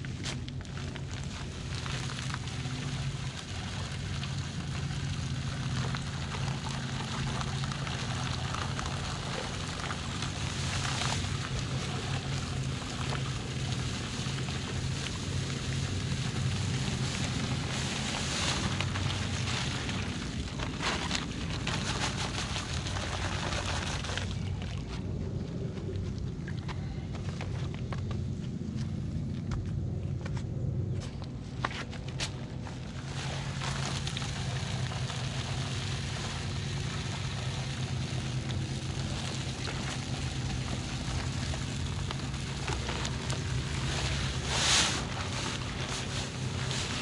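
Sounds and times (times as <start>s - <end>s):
low hum: 0.0s - 47.0s
dry concrete pouring hiss: 0.2s - 24.4s, 32.9s - 47.0s.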